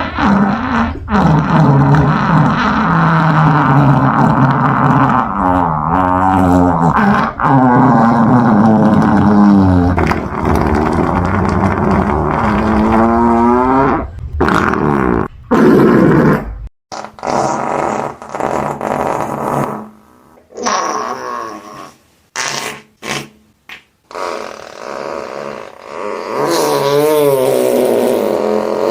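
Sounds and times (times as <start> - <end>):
farting: 0.0 - 28.9.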